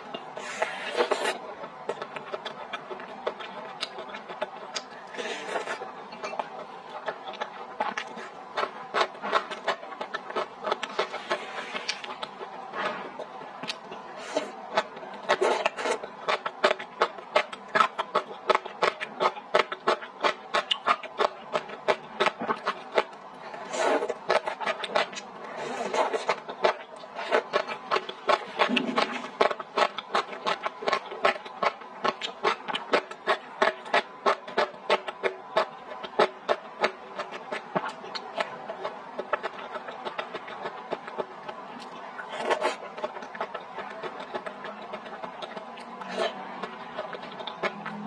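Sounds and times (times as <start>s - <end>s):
close chewing with wet smacks: 0.0s - 48.0s.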